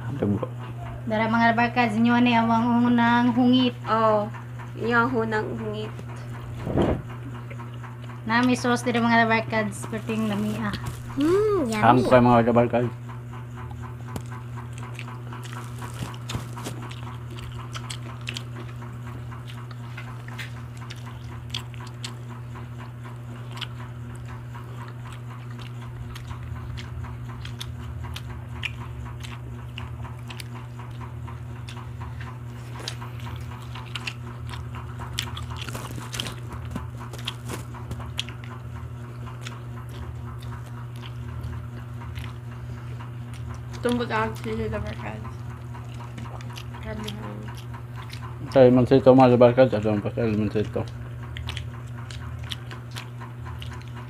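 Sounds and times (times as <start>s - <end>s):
steady low hum: 0.0s - 54.0s
chewing and lip-smacking: 4.3s - 12.0s, 13.2s - 54.0s.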